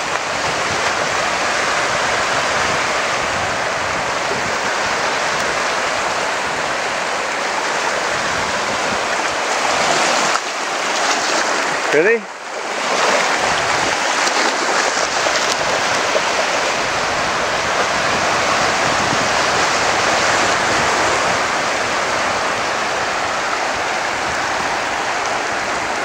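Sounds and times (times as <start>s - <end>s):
small waves breaking: 0.0s - 26.0s.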